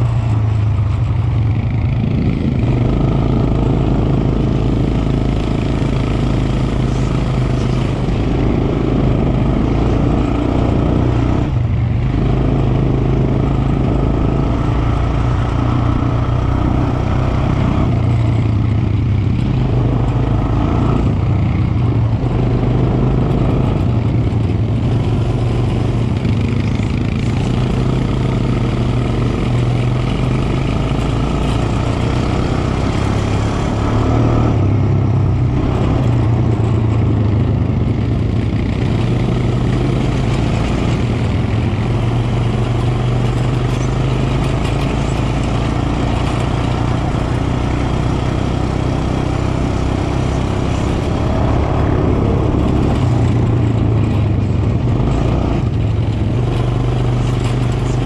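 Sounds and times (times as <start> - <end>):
quad bike engine droning: 0.0 - 58.0.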